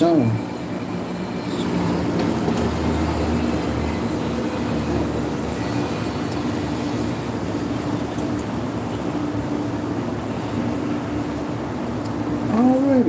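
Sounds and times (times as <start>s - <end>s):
mechanical rumble and hiss: 0.0s - 13.0s.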